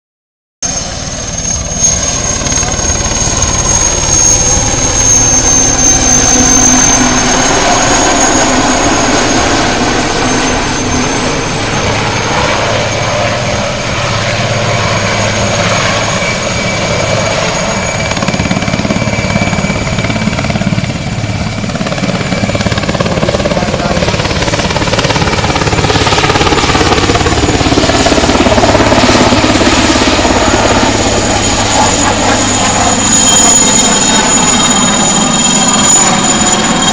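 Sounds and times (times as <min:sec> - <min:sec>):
helicopter rotor noise: 0:00.6 - 0:36.9
high turbine whine: 0:00.6 - 0:36.9.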